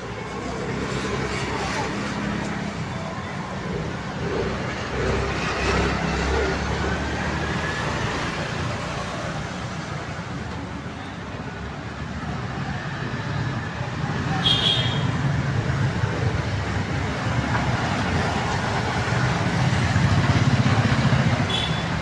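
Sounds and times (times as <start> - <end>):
vehicles passing on street: 0.0 - 22.0.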